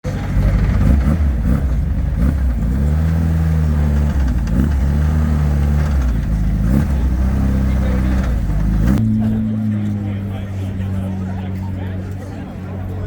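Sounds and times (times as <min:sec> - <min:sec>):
car engine idling: 0:00.0 - 0:13.0
engine throttle blips: 0:00.0 - 0:13.0.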